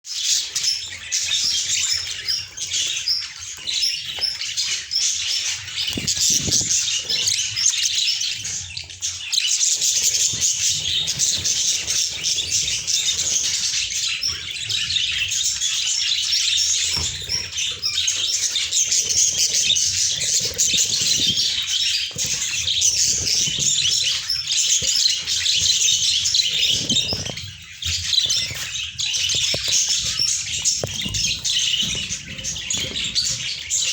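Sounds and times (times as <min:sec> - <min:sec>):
budgerigars chattering: 0:00.2 - 0:33.9.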